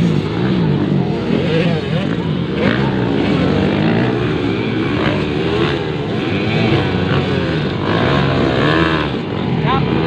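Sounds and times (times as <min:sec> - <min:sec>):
motocross bikes revving: 0:00.0 - 0:10.0.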